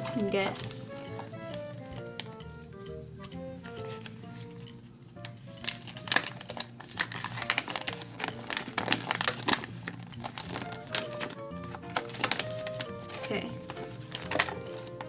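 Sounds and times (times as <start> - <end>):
paper crinkling and rustling: 0.0 - 2.4, 3.2 - 15.0
music with plinking melody: 0.0 - 15.0.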